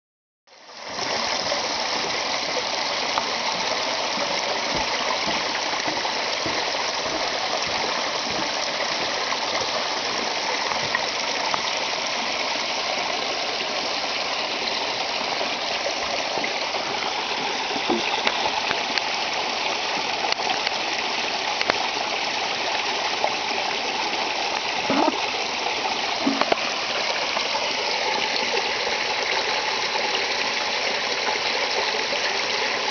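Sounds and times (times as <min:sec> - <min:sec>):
water rushing over rock ledges: 0:00.6 - 0:32.9.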